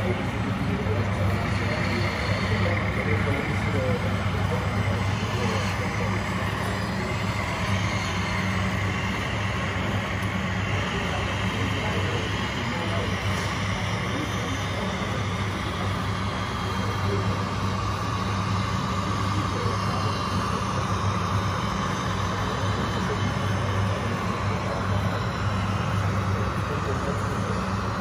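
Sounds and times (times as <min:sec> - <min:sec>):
model trucks droning: 0:00.0 - 0:28.0.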